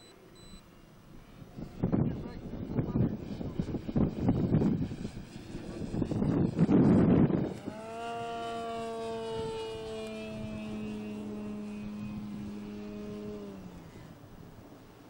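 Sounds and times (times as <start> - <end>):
model airplane propeller drone: 0.0 - 15.0.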